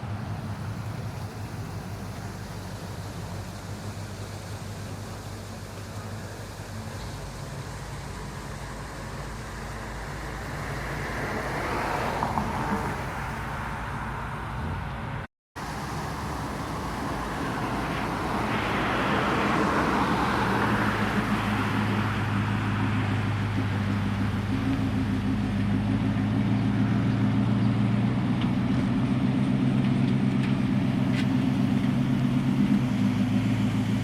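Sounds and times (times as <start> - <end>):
cars driving past: 0.0 - 34.0
low engine hum: 0.0 - 34.0.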